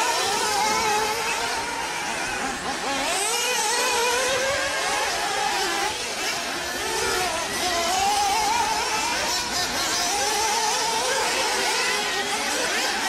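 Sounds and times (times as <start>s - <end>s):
radio-controlled cars motors: 0.0s - 13.0s.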